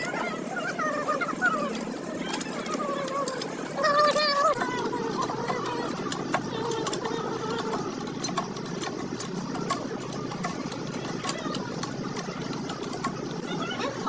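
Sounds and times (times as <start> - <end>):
motor running: 0.0 - 14.0.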